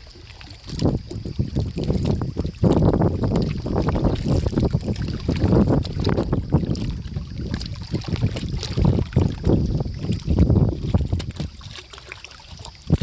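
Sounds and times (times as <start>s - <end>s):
water splashing and sloshing: 0.0s - 13.0s
wind buffeting microphone: 0.0s - 13.0s.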